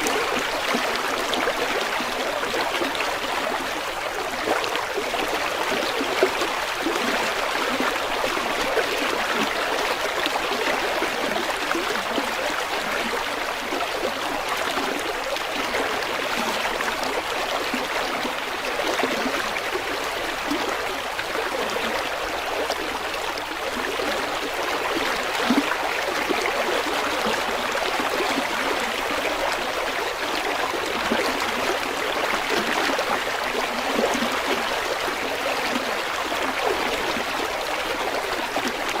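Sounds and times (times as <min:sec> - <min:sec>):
river water babbling: 0:00.0 - 0:39.0.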